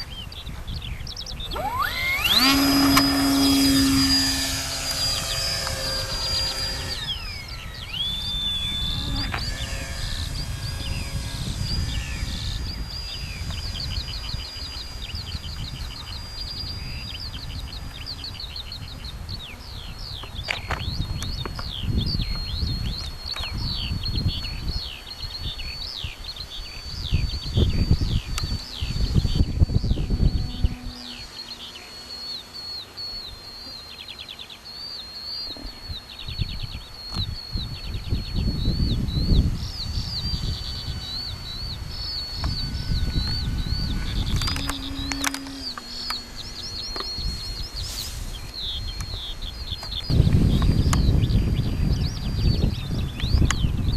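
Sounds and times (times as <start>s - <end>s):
wind rumbling on microphone: 0.0s - 34.2s, 35.1s - 53.9s
bird chirping: 0.0s - 53.9s
songbirds singing: 0.0s - 53.9s.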